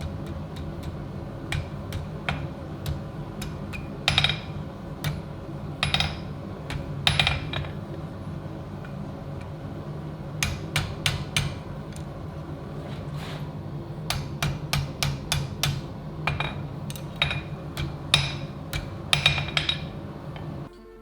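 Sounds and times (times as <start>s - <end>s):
steady low hum: 0.0s - 20.7s.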